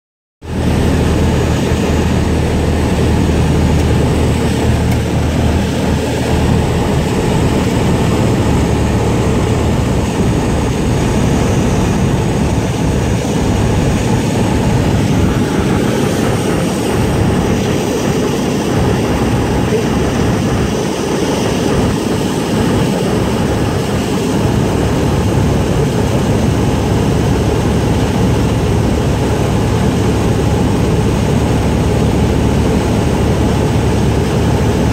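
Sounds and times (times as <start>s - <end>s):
propeller airplane engine drone: 0.4s - 34.9s.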